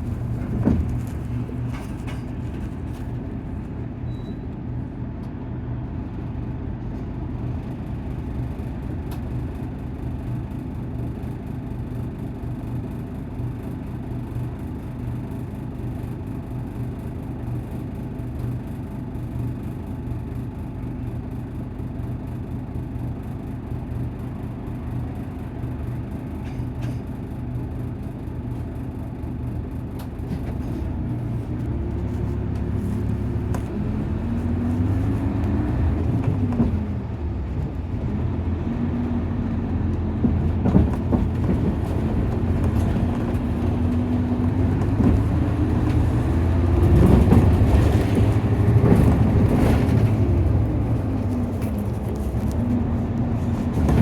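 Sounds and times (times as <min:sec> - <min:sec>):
bus diesel engine: 0:00.0 - 0:54.0.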